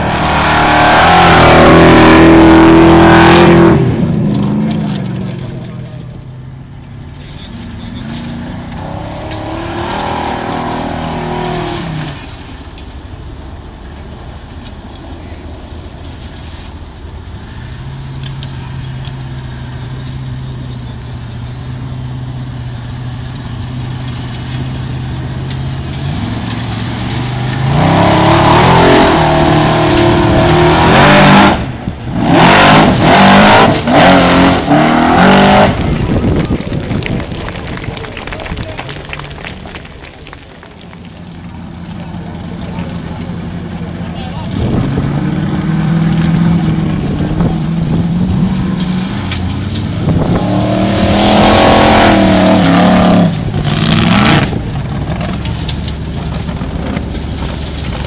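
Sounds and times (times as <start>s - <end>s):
offroad car engine revving: 0.0s - 58.0s.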